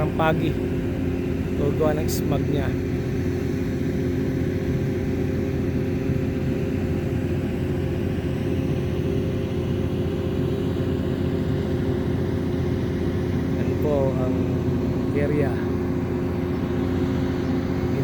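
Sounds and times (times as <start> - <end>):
steady motor hum: 0.0 - 18.0.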